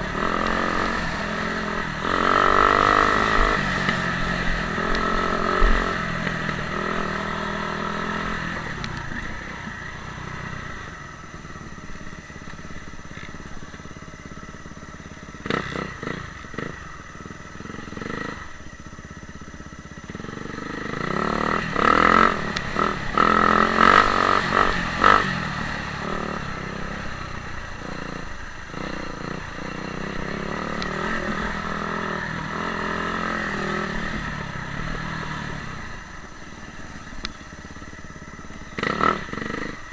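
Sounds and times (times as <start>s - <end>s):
motocross motorcycle engines revving: 0.0s - 39.9s.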